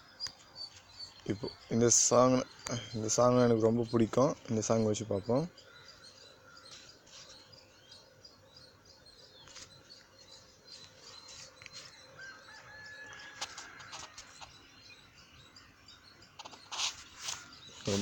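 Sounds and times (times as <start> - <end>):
faint background noise: 0.0 - 18.0
small birds chirping: 0.0 - 18.0.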